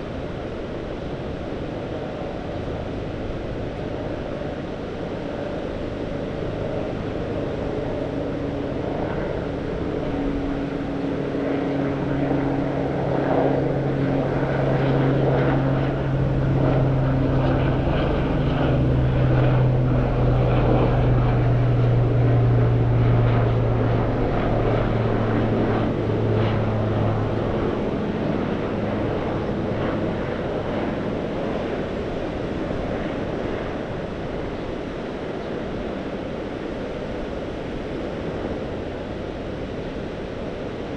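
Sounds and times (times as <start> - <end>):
motor drone passing by: 2.7 - 36.5.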